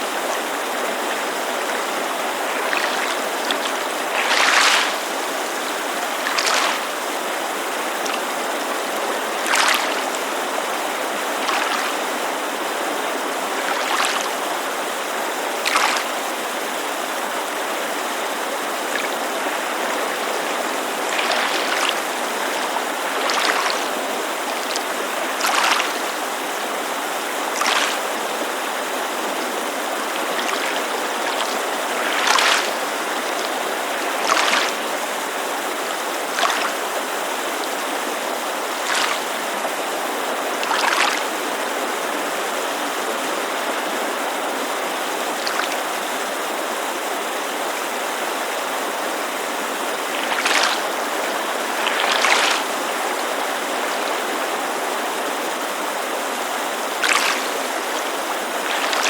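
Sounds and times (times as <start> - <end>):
creek rushing: 0.0 - 59.0
small waves lapping on shore: 0.0 - 59.0.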